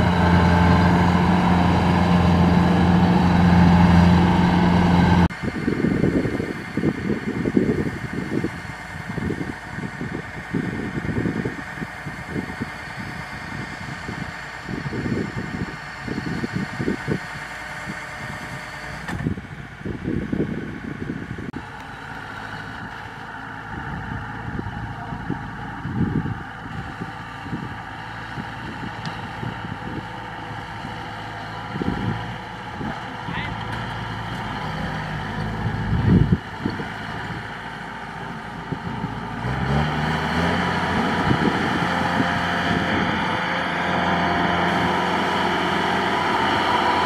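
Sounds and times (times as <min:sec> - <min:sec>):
diesel engine rumbling: 0:00.0 - 0:47.0
wind buffeting microphone: 0:00.0 - 0:47.0.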